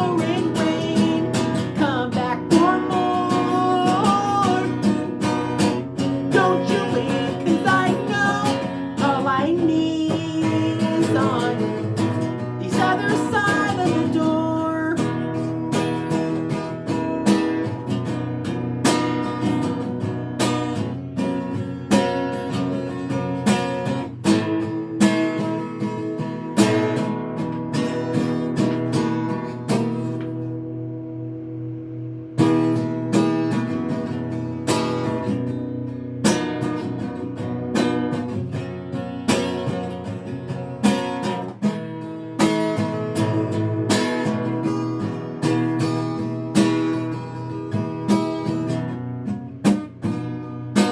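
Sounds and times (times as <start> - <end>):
acoustic guitar strumming: 0.0 - 50.9.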